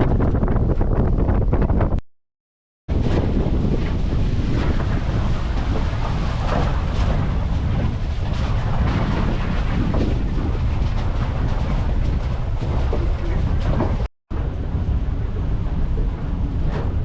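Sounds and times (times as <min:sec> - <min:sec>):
wind buffeting microphone: 0:00.0 - 0:02.0, 0:02.9 - 0:17.0.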